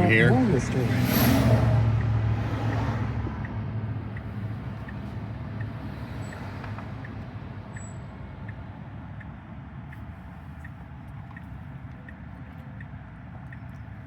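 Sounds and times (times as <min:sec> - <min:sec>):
road and tyre noise in car: 0:00.0 - 0:14.0
faint regular tick: 0:02.7 - 0:14.0.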